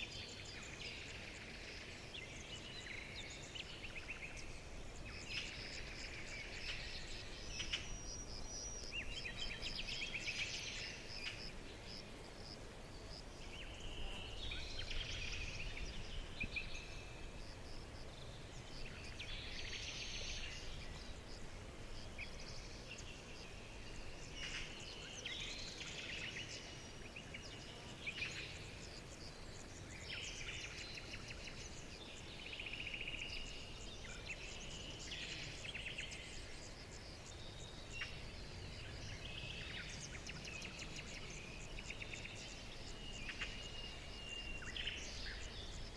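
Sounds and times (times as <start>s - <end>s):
low background hiss: 0.0s - 45.9s.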